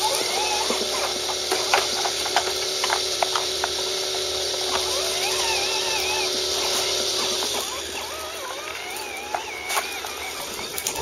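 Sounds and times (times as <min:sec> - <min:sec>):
plastic wheels clicking on concrete: 0:00.0 - 0:11.0
steady hum: 0:00.0 - 0:11.0.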